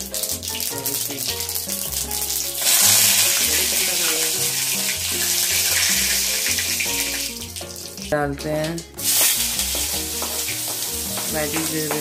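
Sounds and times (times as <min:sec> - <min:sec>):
leaves sizzling in hot oil: 0:00.0 - 0:08.1, 0:09.0 - 0:12.0
background music: 0:00.0 - 0:12.0.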